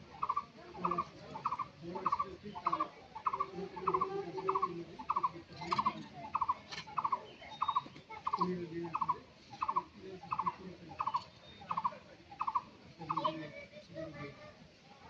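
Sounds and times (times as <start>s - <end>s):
bird calling: 0.0s - 13.6s.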